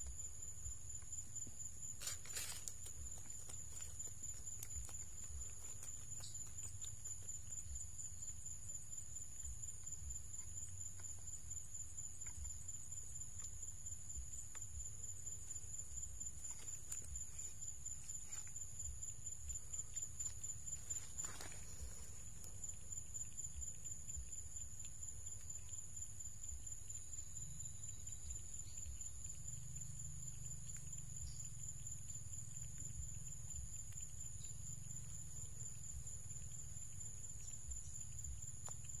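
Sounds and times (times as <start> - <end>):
faint ticks: 0.0 - 39.0
insects droning: 0.0 - 39.0.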